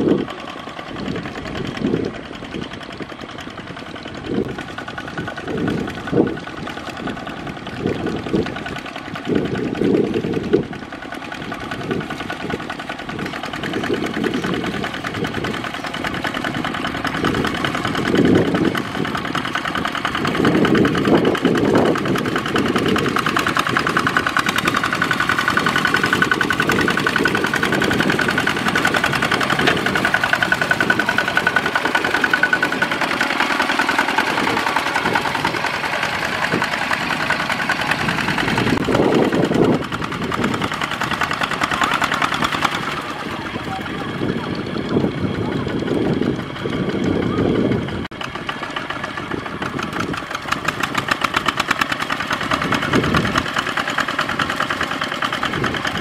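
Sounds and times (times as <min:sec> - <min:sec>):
walking tractor diesel engine: 0:00.0 - 0:56.0
wheels churning through mud: 0:00.0 - 0:56.0.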